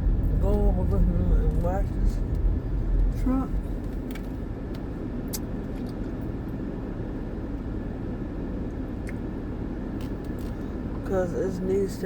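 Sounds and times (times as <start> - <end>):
truck engine rumble and hiss: 0.0 - 12.0.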